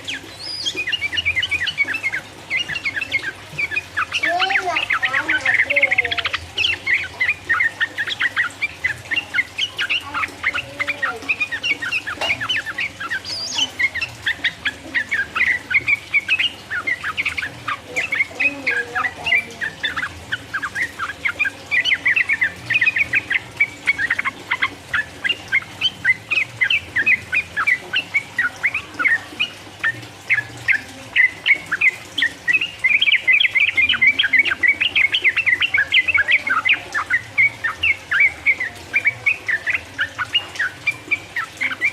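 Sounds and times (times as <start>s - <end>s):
bird singing bubbling chirps: 0.0s - 41.9s.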